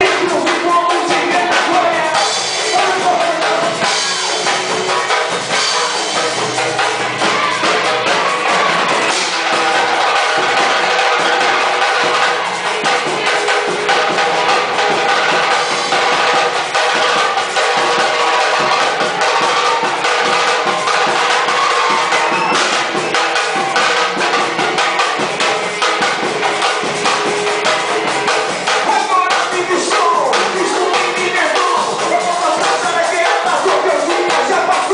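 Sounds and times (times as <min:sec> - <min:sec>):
band playing gospel instrumental: 0:00.0 - 0:34.9
drum kit beat: 0:00.0 - 0:34.9.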